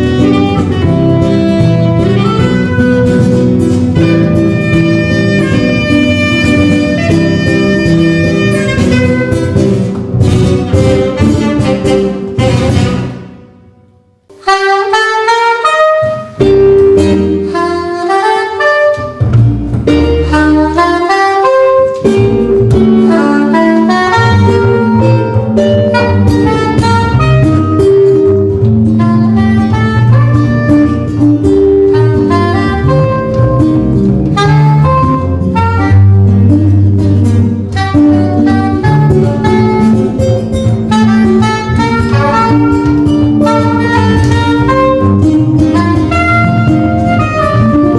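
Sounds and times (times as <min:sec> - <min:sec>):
jazz trio playing: 0:00.0 - 0:13.6, 0:14.2 - 0:47.9.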